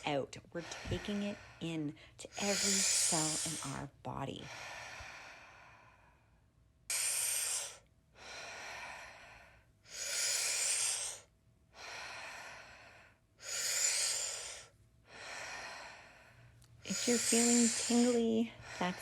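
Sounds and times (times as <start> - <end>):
woman breathing deeply: 0.6 - 3.8, 4.4 - 19.0.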